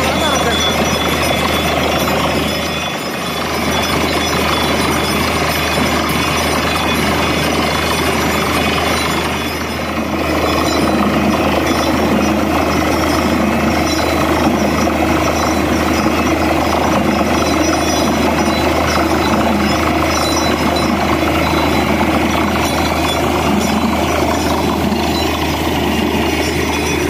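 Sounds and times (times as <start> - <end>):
drilling rig clattering: 0.0 - 27.0.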